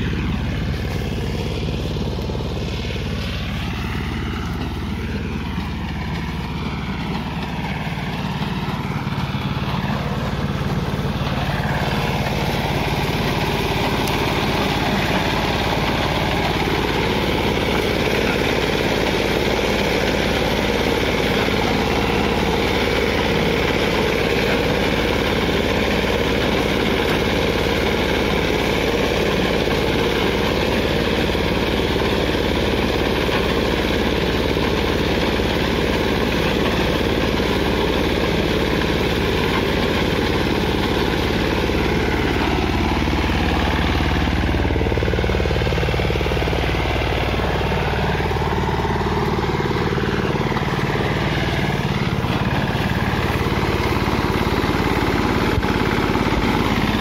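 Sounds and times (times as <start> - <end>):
reaper binder engine running: 0.0 - 57.0.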